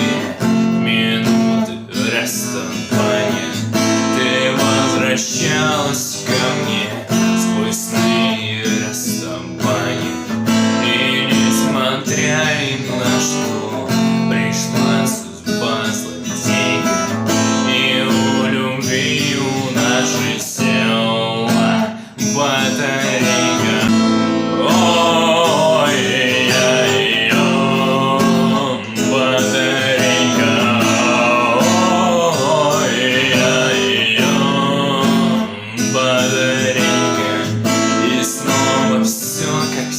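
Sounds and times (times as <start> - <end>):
higher guitar melody line: 0.0 - 39.9
strummed acoustic guitar: 0.0 - 39.9.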